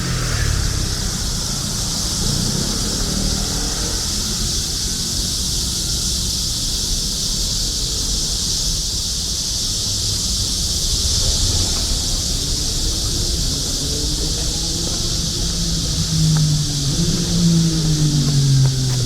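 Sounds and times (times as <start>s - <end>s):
cicadas droning: 0.0s - 19.0s
low traffic rumble: 0.0s - 19.0s.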